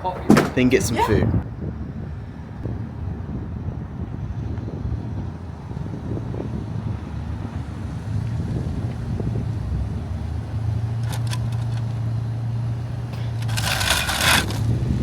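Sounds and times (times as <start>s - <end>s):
car engine and road drone: 0.0s - 15.0s.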